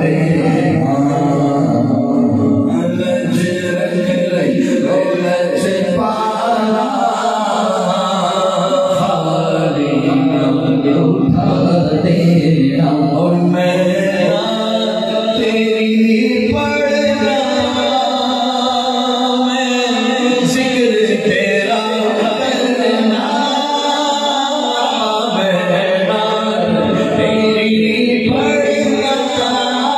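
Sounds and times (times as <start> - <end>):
low drone of voices: 0.0 - 29.9
man singing unaccompanied: 0.0 - 29.9.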